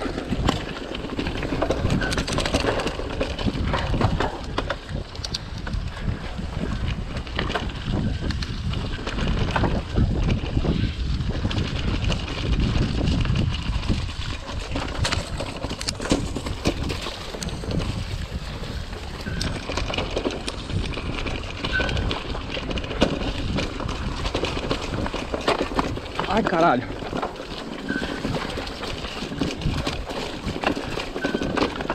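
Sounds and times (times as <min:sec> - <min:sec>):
bike knocks and rattles: 0:00.0 - 0:31.9
wind rumble on microphone: 0:00.0 - 0:31.9.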